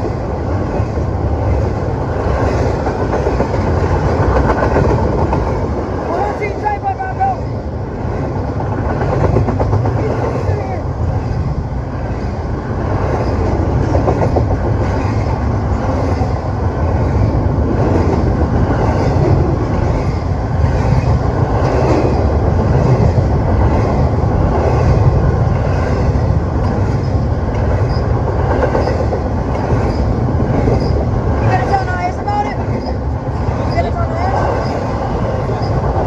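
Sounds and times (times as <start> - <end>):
train wheels clacking on rails: 0.0 - 6.0, 8.1 - 11.4, 12.0 - 36.0
freight train rumbling past: 0.0 - 36.0.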